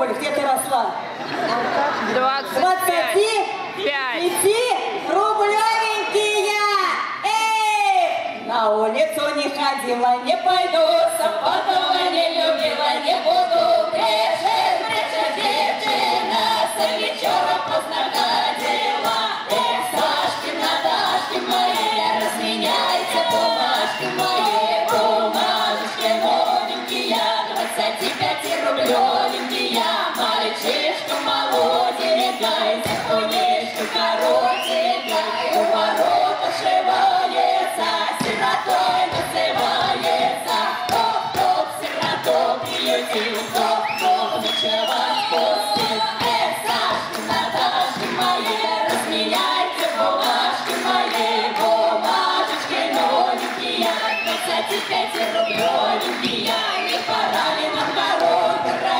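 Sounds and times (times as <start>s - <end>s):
group singing folk song: 10.3s - 58.9s.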